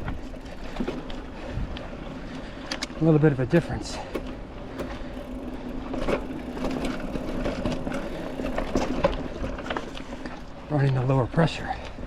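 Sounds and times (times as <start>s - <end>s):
bike rattling over bumps: 0.0s - 12.0s
mountain bike rolling on dirt: 0.0s - 12.0s.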